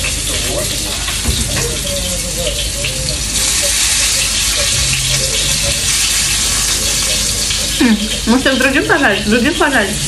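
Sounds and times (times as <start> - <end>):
water running from tap into sink: 0.0 - 10.0.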